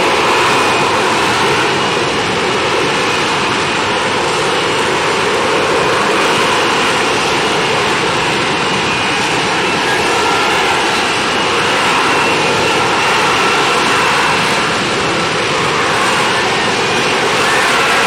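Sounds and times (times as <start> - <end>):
airplane engines droning: 0.0 - 18.0.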